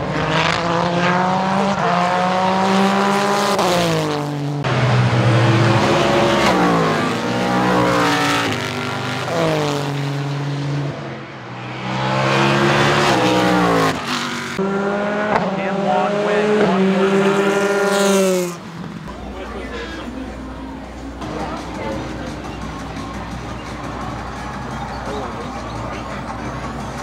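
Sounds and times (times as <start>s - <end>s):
race cars passing at full speed: 0.0s - 27.0s.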